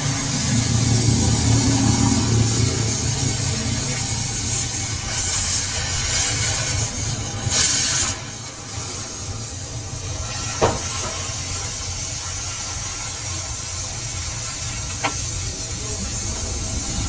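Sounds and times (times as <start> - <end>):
workshop machinery humming: 0.0 - 17.0.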